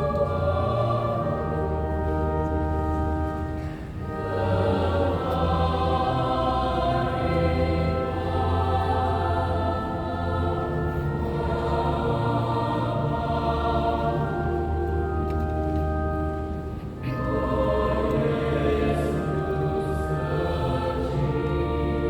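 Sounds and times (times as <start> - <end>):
choir singing: 0.0 - 16.4, 17.0 - 22.0.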